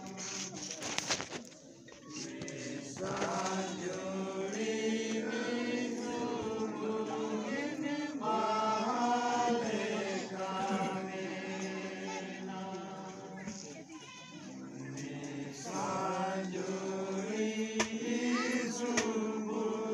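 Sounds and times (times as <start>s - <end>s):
group of voices singing: 2.1s - 19.9s.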